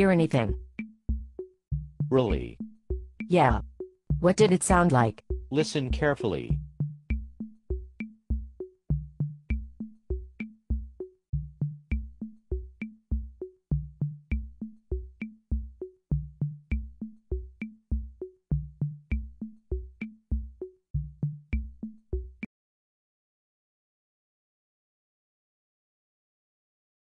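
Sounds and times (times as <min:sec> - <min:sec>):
drum machine beat: 0:00.0 - 0:22.5.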